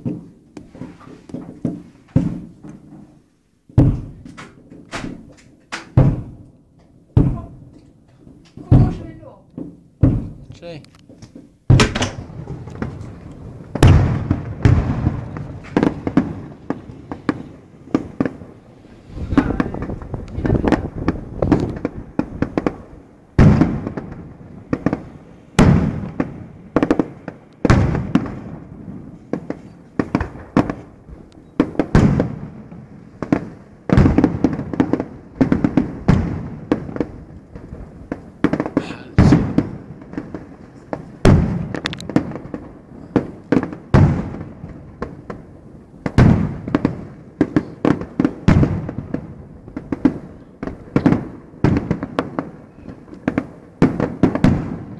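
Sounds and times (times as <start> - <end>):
crackling pops: 0.0 - 45.4, 46.0 - 54.9
fireworks bangs: 0.0 - 54.9.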